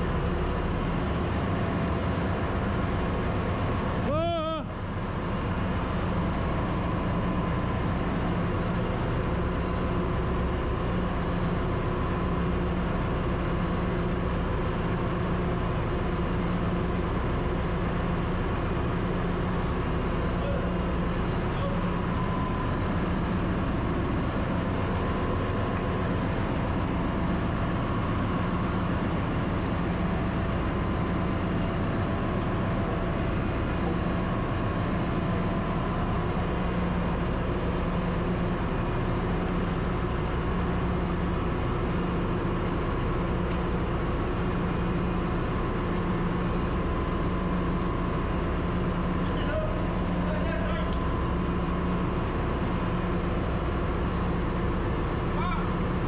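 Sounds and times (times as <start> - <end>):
engine-room machinery drone: 0.0 - 56.0.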